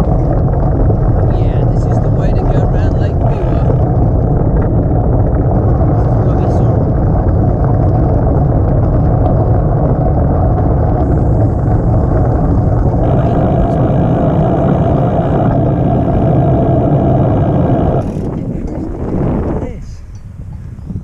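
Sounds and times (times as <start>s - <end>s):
bicycle tyres rolling on gravel: 0.0s - 19.5s
wind blowing over microphone: 0.0s - 21.0s.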